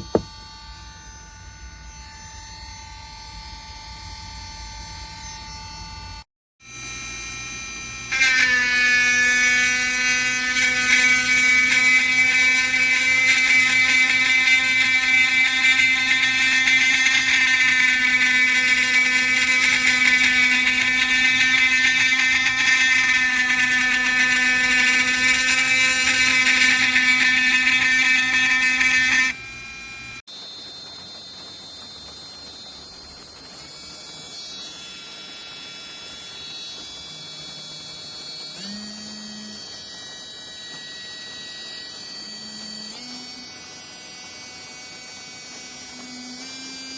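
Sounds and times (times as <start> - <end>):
rotary tool motor whine: 0.0 - 31.6, 33.4 - 46.9.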